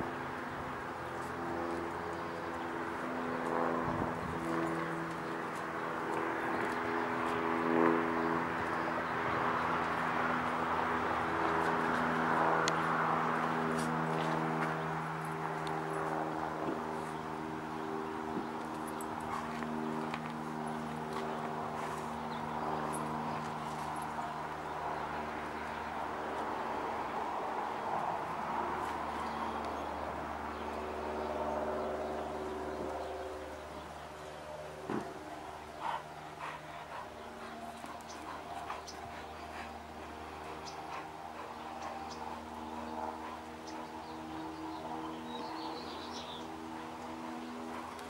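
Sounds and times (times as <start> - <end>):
steady mechanical hum: 0.0 - 48.0
dogs digging and sniffing: 0.9 - 31.5, 32.1 - 48.0
paws scratching dirt: 1.0 - 26.6, 34.5 - 48.0.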